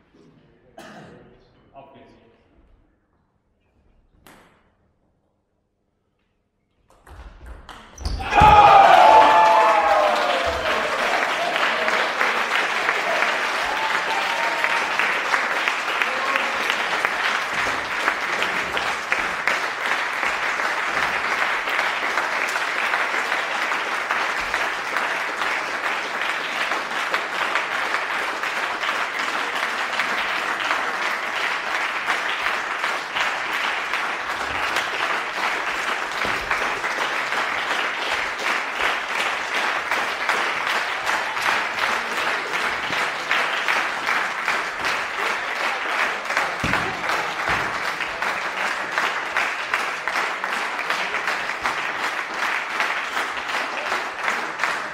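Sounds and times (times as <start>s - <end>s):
crowd applauding: 8.2s - 54.9s.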